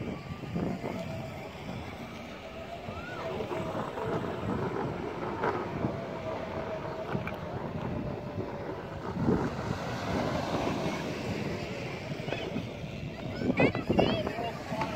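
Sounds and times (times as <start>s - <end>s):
faint steady whine: 0.0s - 14.9s
scooter tyres rolling on concrete: 0.0s - 14.9s
wind buffeting microphone: 0.0s - 14.9s.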